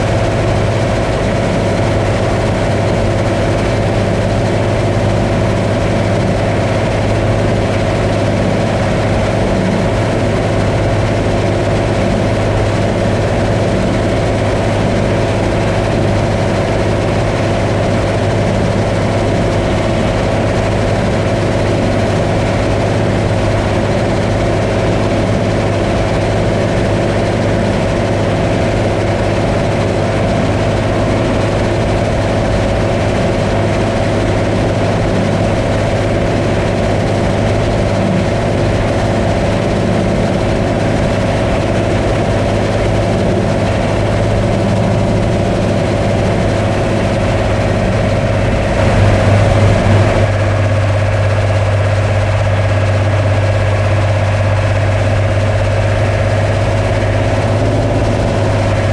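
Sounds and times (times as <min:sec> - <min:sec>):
combine harvester engine hum: 0:00.0 - 0:58.9
machinery whine: 0:00.0 - 0:58.9.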